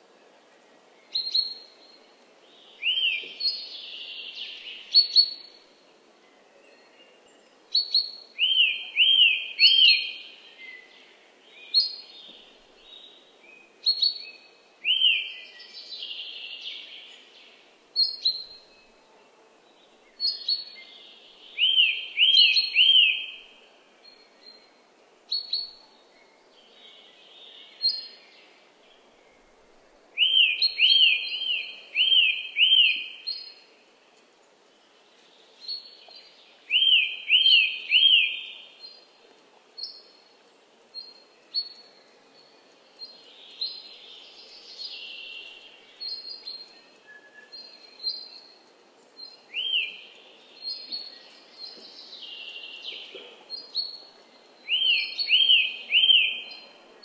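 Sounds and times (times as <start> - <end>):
faint background hiss: 0.0 - 57.0
birdsong chirps and whistles: 1.0 - 2.0, 2.7 - 5.6, 7.7 - 10.9, 11.6 - 18.9, 20.1 - 28.6, 30.2 - 33.6, 35.2 - 39.0, 40.9 - 56.8.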